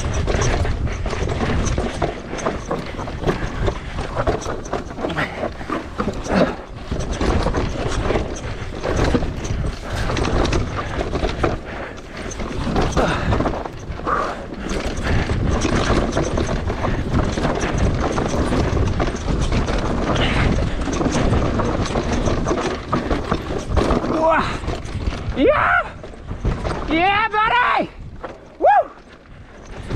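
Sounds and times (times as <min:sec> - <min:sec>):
bike rattling over rocks: 0:00.0 - 0:29.9
tyres rushing on dirt: 0:00.0 - 0:29.9.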